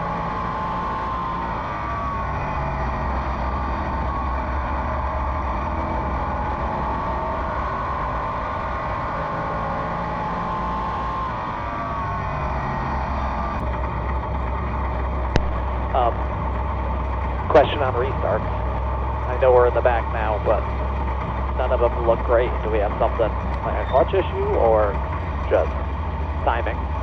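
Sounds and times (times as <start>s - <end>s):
race car engine: 0.0s - 27.0s.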